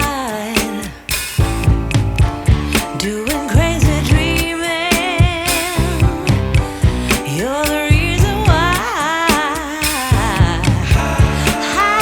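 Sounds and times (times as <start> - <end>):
soul song with vocals: 0.0 - 1.5, 2.6 - 12.0
steady drum beat: 0.0 - 12.0.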